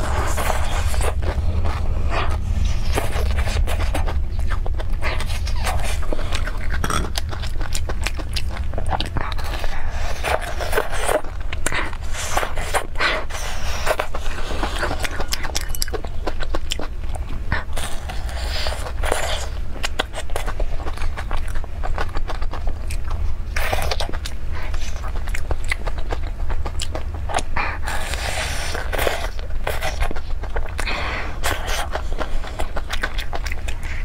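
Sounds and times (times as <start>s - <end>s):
crunchy biting and chewing: 0.0s - 34.0s
steady low hum: 0.0s - 34.0s.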